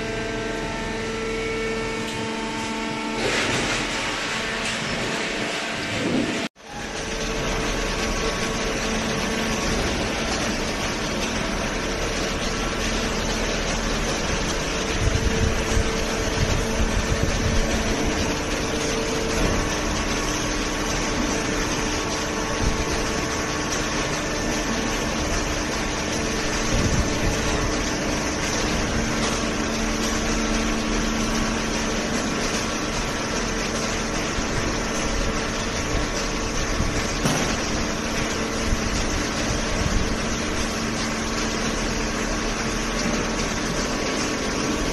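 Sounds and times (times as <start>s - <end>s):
machine drone: 0.0s - 44.9s.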